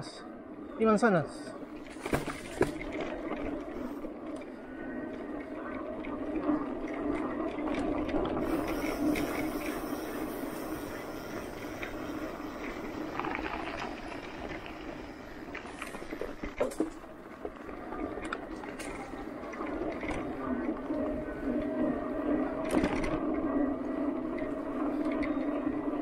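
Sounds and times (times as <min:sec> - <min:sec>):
bike rolling on dirt trail: 0:01.6 - 0:26.0.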